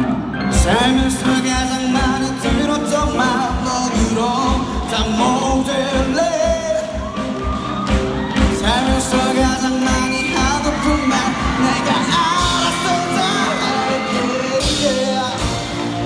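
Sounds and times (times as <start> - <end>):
pop song with vocals and band: 0.0 - 16.0.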